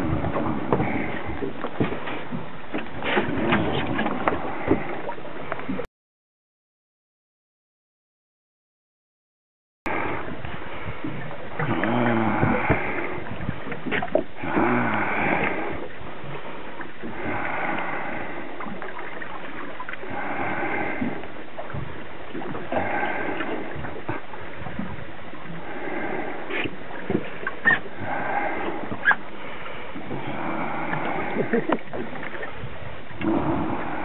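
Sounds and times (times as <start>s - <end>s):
water washing against boat: 0.0s - 5.9s, 9.9s - 34.0s.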